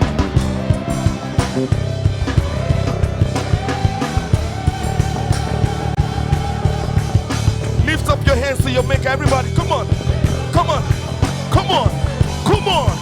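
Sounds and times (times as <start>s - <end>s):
bass: 0.0s - 13.0s
drum kit steady beat: 0.0s - 13.0s
sustained organ line: 0.0s - 13.0s.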